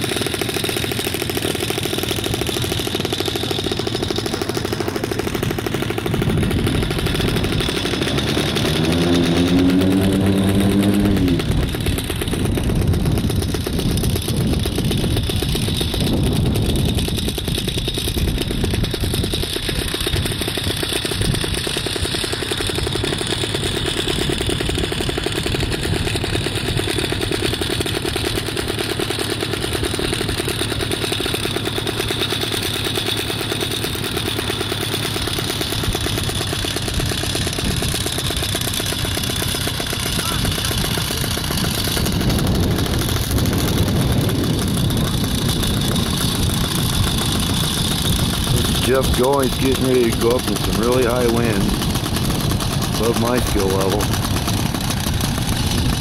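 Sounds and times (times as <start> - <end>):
paramotor engine running: 0.0 - 56.0.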